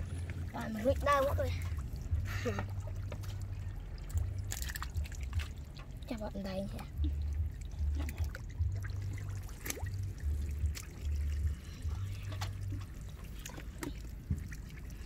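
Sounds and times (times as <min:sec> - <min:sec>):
low rumble: 0:00.0 - 0:15.0
mud squelching and splashing: 0:00.0 - 0:15.0
trickling water: 0:00.0 - 0:15.0.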